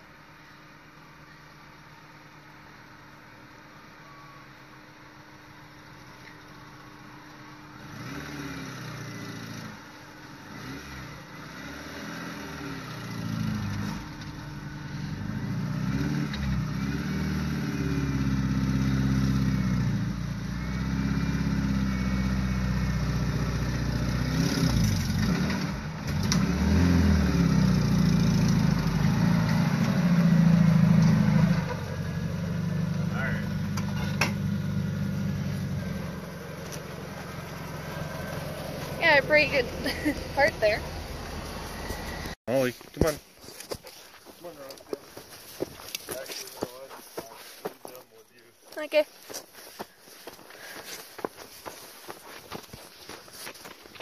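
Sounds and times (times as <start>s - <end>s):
off-road vehicle engine revving: 6.5s - 43.2s, 43.9s - 54.0s.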